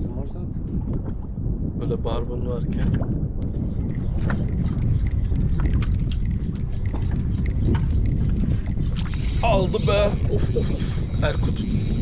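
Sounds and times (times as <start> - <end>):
boat low steady rumble: 0.0 - 12.0.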